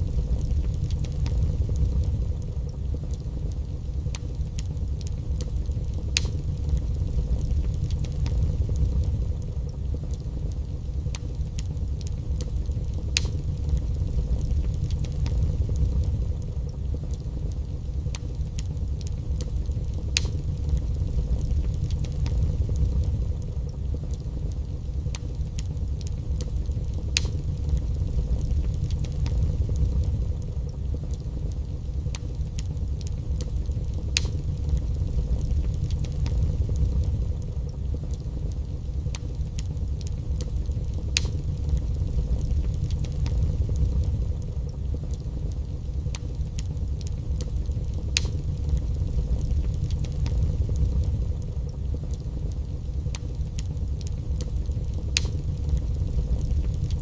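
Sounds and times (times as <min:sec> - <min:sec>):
fire crackles and pops: 0:00.0 - 0:57.0
fire flames rumbling: 0:00.0 - 0:57.0.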